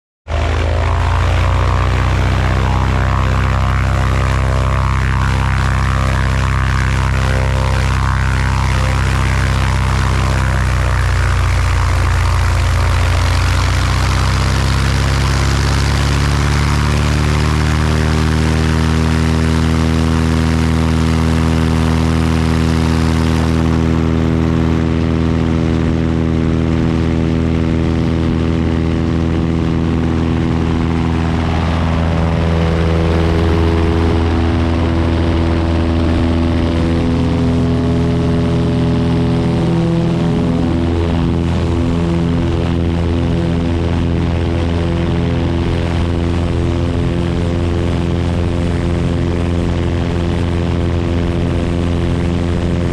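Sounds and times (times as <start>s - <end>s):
propeller plane engine: 0.2s - 52.9s.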